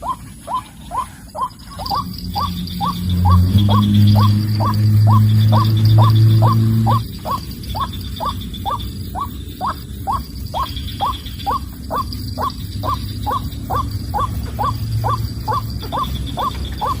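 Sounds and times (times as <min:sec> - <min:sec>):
high insect drone: 0:00.0 - 0:17.0
waterhen calling hollow notes: 0:00.0 - 0:17.0.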